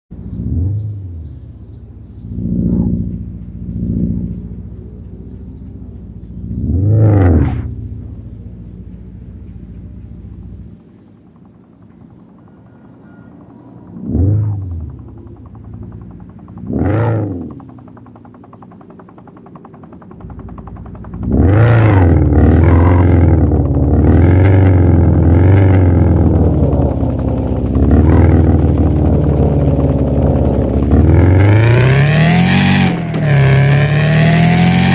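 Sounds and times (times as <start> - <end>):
vehicle engine revving: 0.1 - 34.9.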